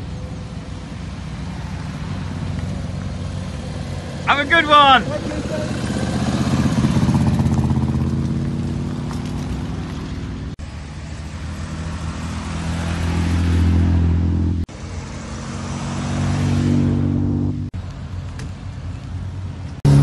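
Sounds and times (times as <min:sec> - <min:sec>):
sports cars driving past: 0:00.0 - 0:20.0.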